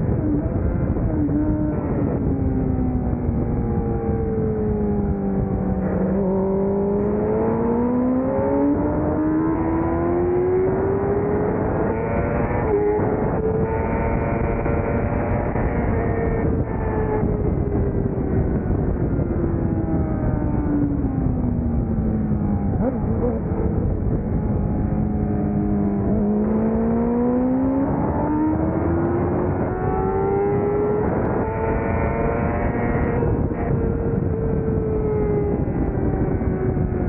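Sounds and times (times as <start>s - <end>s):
wind noise: 0.0s - 37.0s
race motorcycle engine: 0.1s - 37.0s.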